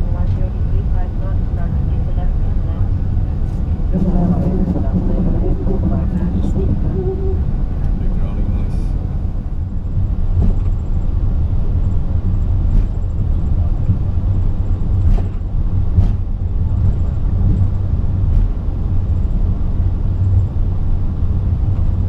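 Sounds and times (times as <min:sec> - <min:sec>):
aircraft taxiing rumble: 0:00.0 - 0:22.0.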